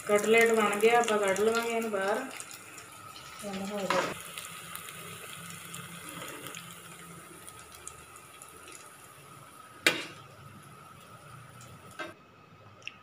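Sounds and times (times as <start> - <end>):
hot oil sizzling: 0.0 - 12.2.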